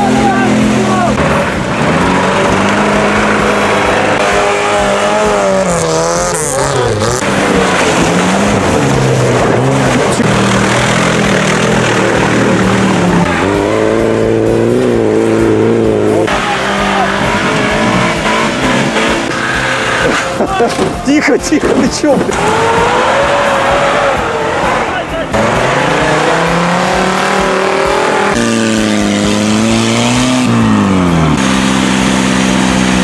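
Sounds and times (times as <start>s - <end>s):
off-road vehicle engine revving: 0.0s - 21.0s, 21.6s - 33.0s.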